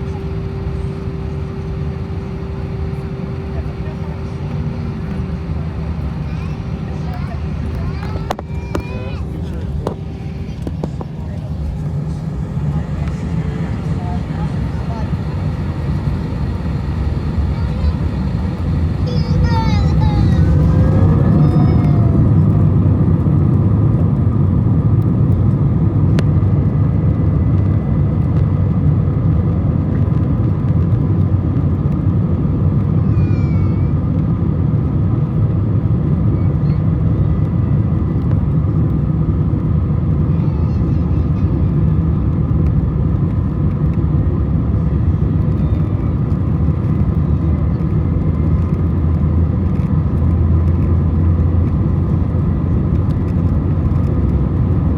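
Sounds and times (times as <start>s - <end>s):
airliner engine rumble: 0.0s - 54.9s.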